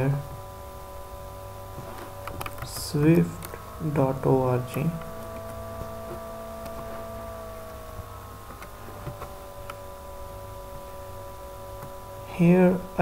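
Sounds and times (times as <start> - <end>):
steady multi-tone hum: 0.0 - 13.0.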